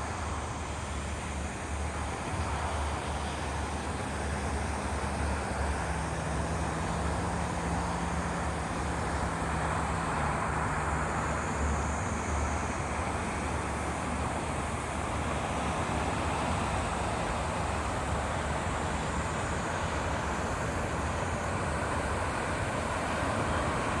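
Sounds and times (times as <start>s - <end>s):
vehicle engine drone: 0.1s - 24.0s
road traffic rushing: 4.3s - 24.0s.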